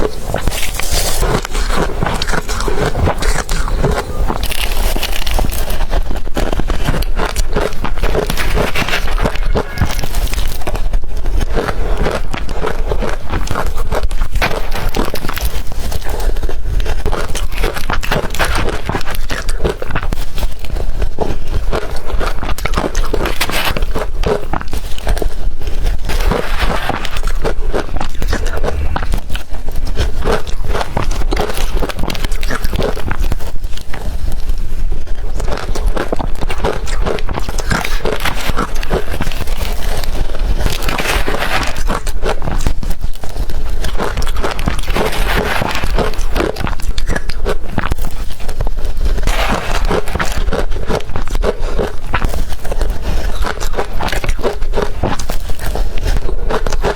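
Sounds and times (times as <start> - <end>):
crunching ice being bitten: 0.0 - 56.9.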